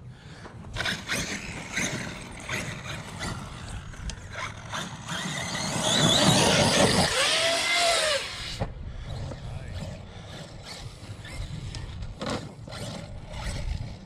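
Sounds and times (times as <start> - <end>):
electric motor whine: 0.8 - 14.0.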